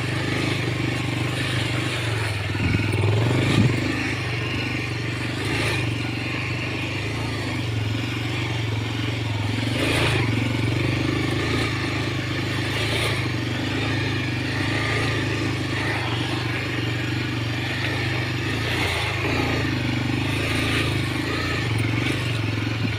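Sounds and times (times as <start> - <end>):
motorbike engine running: 0.0 - 22.9.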